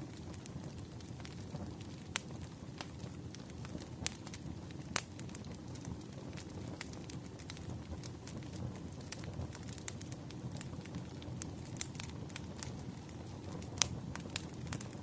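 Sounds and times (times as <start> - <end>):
campfire crackling: 0.0 - 15.0
fire pops and snaps: 0.0 - 15.0.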